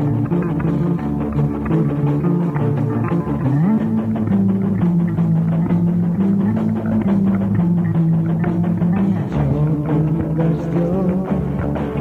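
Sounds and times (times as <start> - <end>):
drum hits: 0.0 - 12.0
instrumental rock music: 0.0 - 12.0.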